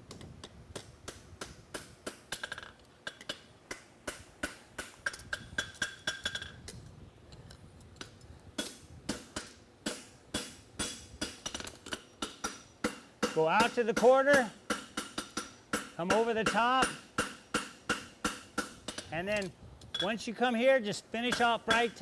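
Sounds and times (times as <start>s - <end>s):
hammer striking horseshoe on anvil: 0.8s - 6.5s, 8.6s - 20.1s, 21.3s - 22.0s.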